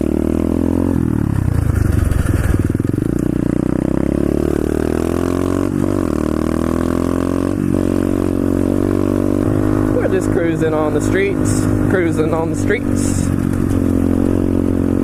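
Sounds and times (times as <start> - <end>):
motorbike engine accelerating: 0.0 - 15.0.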